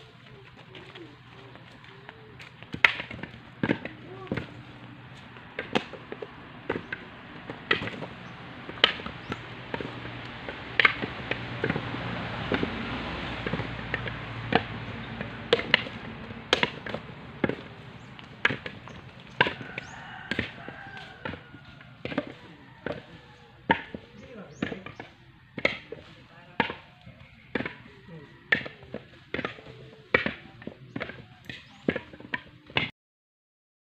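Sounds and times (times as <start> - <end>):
coconuts being chopped: 0.3 - 32.9.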